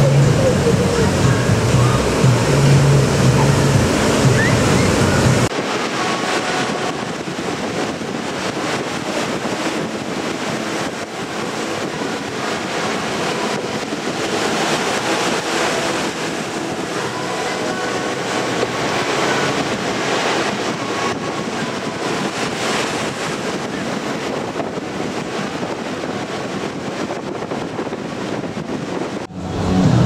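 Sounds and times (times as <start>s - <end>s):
low hum: 0.0s - 24.3s, 29.2s - 30.0s
sea surf breaking on sand: 0.0s - 30.0s
wind on microphone: 0.0s - 30.0s.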